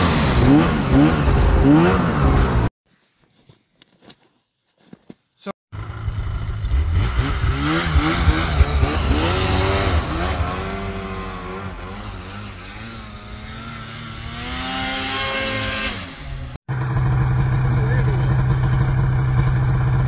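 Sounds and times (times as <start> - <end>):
snowmobile engine revving: 0.0 - 2.7, 5.8 - 20.0.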